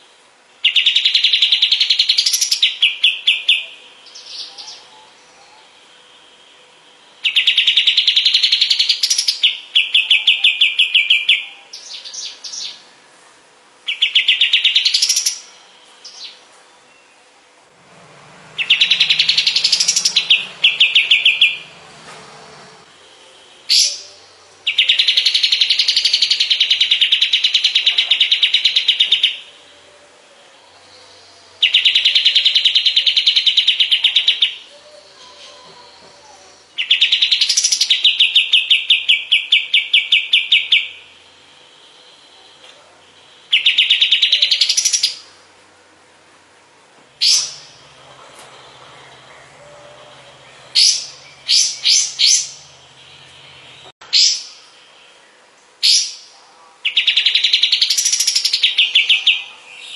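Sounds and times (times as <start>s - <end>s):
songbird singing fast trills: 0.6s - 13.0s, 13.8s - 22.0s, 22.9s - 45.4s, 47.2s - 59.9s.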